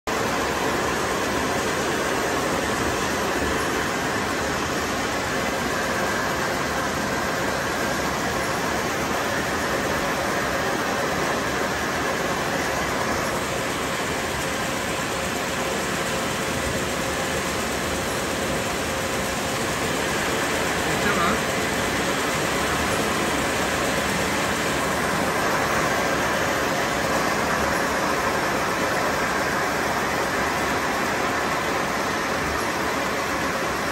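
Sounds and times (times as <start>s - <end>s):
factory machinery hum: 0.1s - 33.9s.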